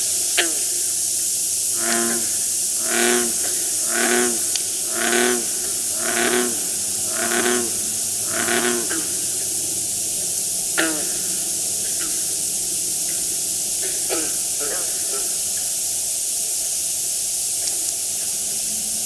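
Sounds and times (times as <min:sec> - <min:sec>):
frog croaking: 0:00.0 - 0:19.0
steady hiss: 0:00.0 - 0:19.0.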